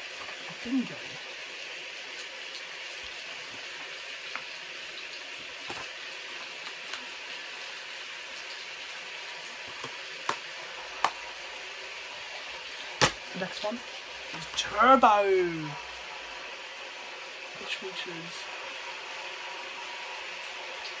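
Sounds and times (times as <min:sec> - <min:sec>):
hiss of falling rain: 0:00.0 - 0:21.0.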